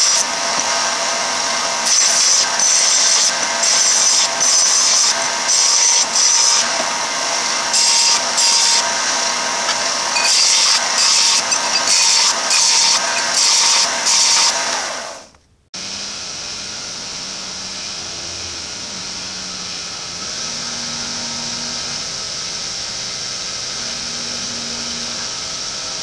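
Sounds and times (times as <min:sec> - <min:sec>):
belt sander grinding metal: 0:00.0 - 0:26.0
milling machine humming: 0:00.0 - 0:26.0.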